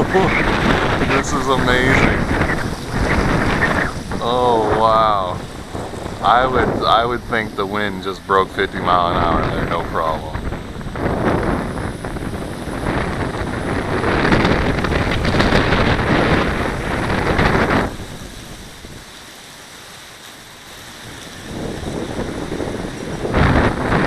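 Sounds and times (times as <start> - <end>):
wind buffeting microphone: 0.0 - 19.2, 20.8 - 24.0.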